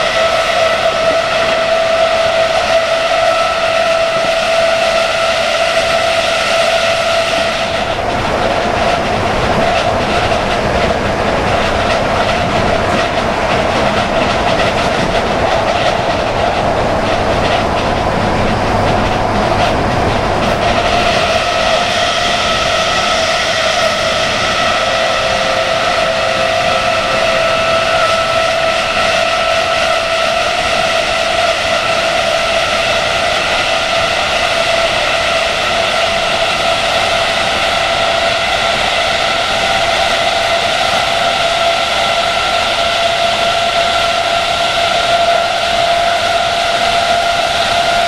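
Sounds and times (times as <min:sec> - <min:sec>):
wheels rushing on rail: 0:00.0 - 0:48.0.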